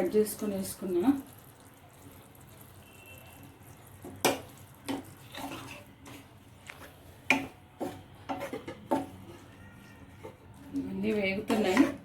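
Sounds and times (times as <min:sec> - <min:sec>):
spoon stirring sauce in pan: 0:01.2 - 0:12.0.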